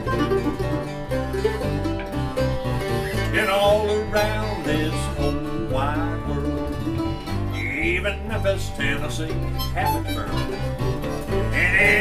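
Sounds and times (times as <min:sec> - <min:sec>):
acoustic guitars strumming: 0:00.0 - 0:12.0
picked string lead: 0:00.0 - 0:12.0.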